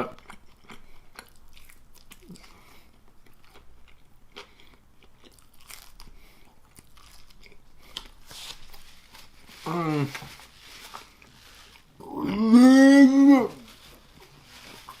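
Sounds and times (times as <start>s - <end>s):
person chewing crunchy food: 0.0s - 12.4s.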